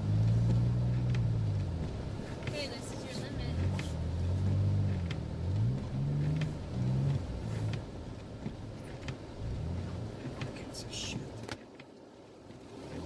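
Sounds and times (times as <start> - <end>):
vehicle engine revving: 0.0 - 11.5, 12.7 - 13.0.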